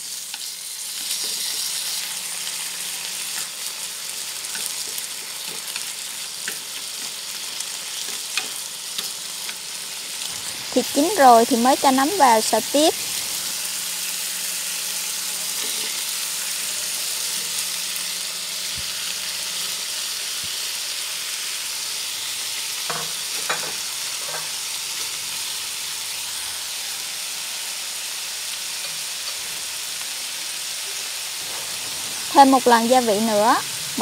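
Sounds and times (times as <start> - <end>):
meat sizzling in a frying pan: 0.0 - 34.0.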